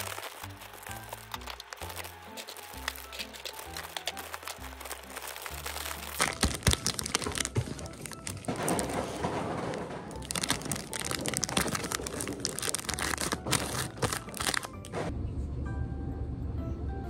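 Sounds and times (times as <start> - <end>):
plastic pieces clicking: 0.0 - 15.0
plastic bags crinkling: 0.0 - 15.1.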